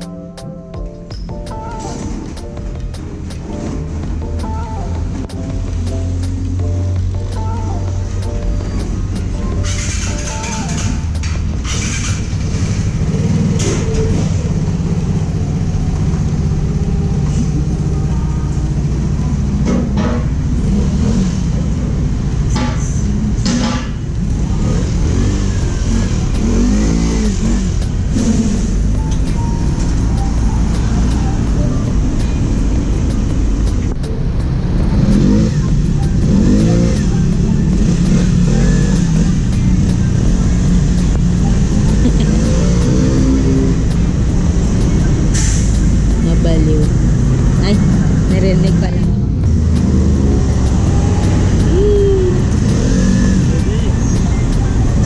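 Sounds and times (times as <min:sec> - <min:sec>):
background music with steady beat: 0:00.0 - 0:21.2, 0:24.6 - 0:55.0
scooter engine running: 0:02.0 - 0:22.5, 0:24.1 - 0:55.0.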